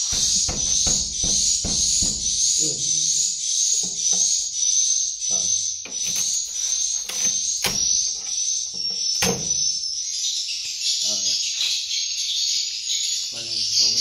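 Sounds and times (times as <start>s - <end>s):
recorded bird chirping from speaker: 0.0s - 14.0s.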